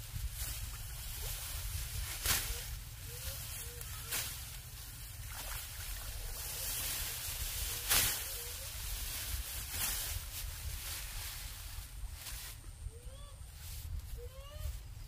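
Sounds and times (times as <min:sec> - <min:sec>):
sickle cutting rice stalks: 0:00.0 - 0:12.7.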